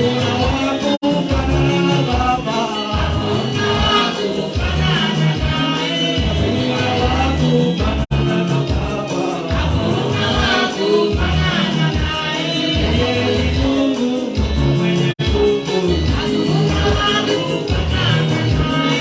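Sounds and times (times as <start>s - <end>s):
gospel singing with band: 0.0s - 19.0s.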